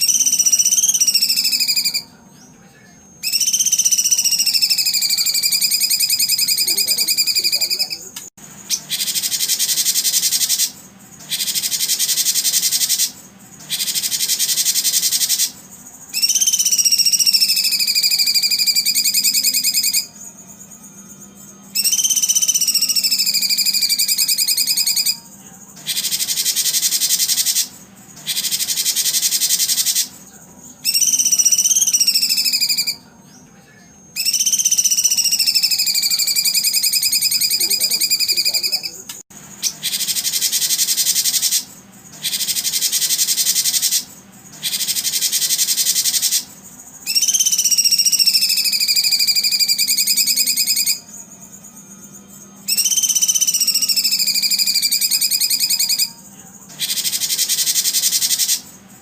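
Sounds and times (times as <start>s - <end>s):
bird buzzing trill: 0.0s - 2.1s, 3.2s - 30.2s, 30.9s - 33.1s, 34.1s - 59.0s.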